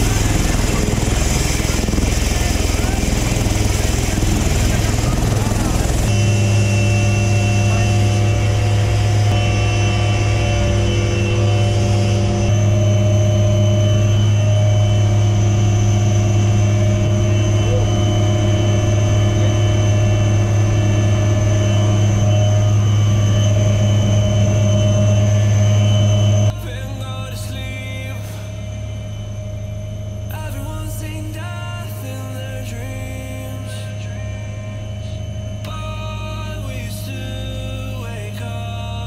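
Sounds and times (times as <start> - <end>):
helicopter cabin drone: 0.0 - 39.0.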